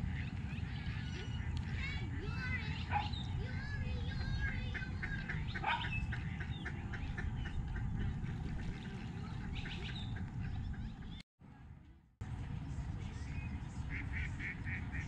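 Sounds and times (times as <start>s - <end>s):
ducks quacking: 0.0s - 11.2s, 13.8s - 15.0s.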